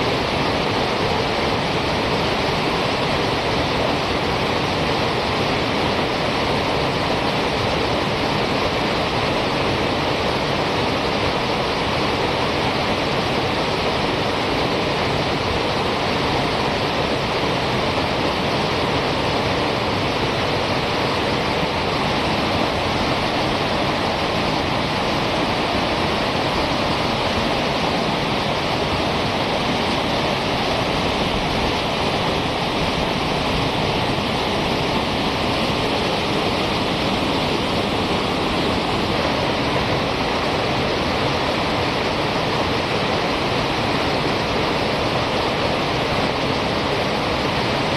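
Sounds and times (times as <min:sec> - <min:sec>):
whitewater rapids rushing: 0:00.0 - 0:47.9.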